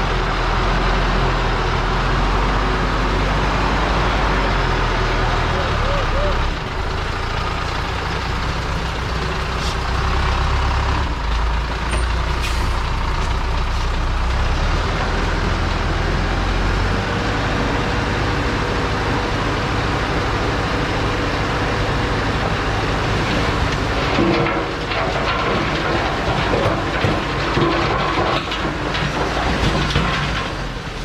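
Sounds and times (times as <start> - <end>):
diesel truck engine rumbling: 0.0 - 31.0.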